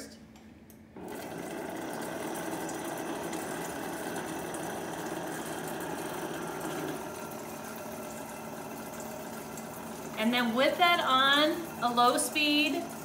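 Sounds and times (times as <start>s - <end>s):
blender motor hum: 1.0s - 13.0s.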